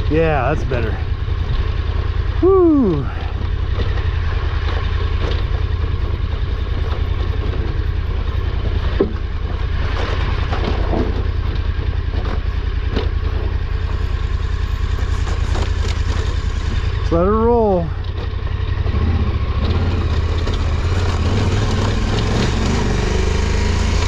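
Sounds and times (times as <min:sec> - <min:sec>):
motorcycle engine running at low revs: 0:00.0 - 0:24.0.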